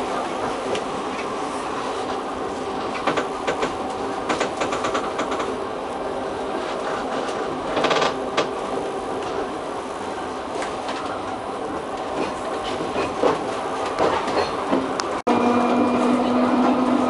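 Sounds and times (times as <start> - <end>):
tram rattle: 0.0 - 17.0
tram rolling on track: 0.0 - 17.0.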